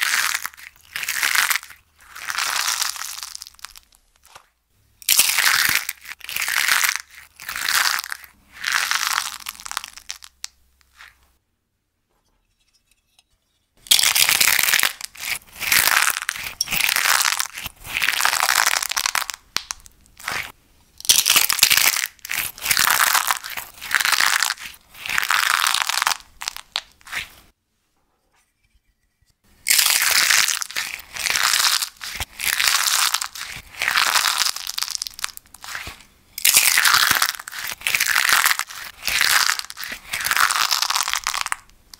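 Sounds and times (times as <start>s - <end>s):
crispy slime crunching: 0.0s - 4.4s, 5.0s - 11.2s, 13.9s - 27.4s, 29.6s - 41.8s.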